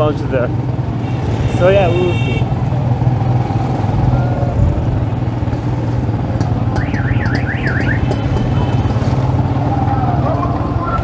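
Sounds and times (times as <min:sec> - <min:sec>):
motorcycle engine running: 0:00.5 - 0:09.7.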